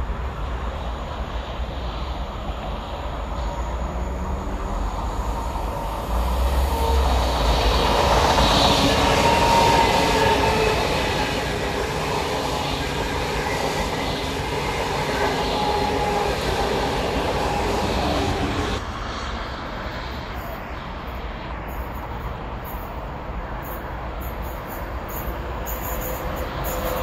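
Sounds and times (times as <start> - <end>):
distant train rumble approaching: 0.0 - 27.0
electric train passing on rails: 0.0 - 27.0.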